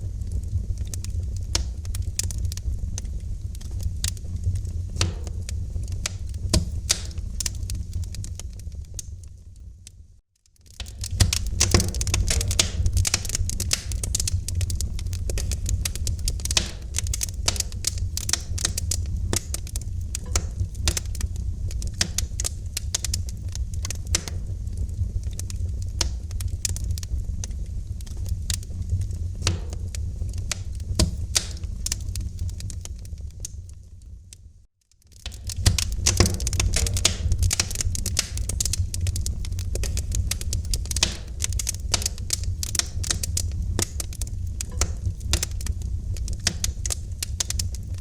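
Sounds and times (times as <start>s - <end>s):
steady low rumble: 0.0s - 10.2s, 11.0s - 34.6s, 35.4s - 48.0s
fire snaps and pops: 0.0s - 48.0s
fireplace fire crackling: 0.0s - 48.0s.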